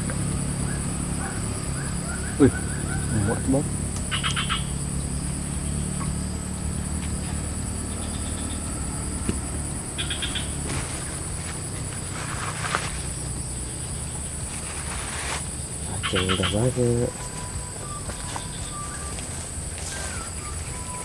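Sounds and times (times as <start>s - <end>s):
frogs croaking: 0.0s - 21.0s
high-pitched insect drone: 0.0s - 21.0s.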